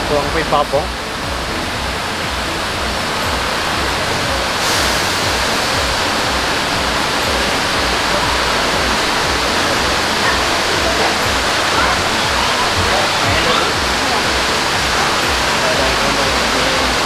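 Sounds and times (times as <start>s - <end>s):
water rushing into tanks: 0.0s - 17.0s.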